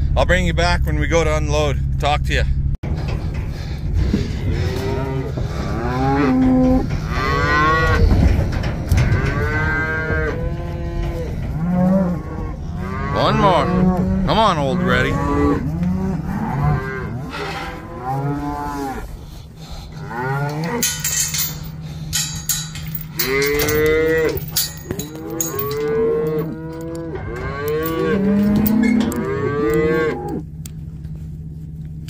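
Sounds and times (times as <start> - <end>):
cows mooing: 3.4 - 30.7.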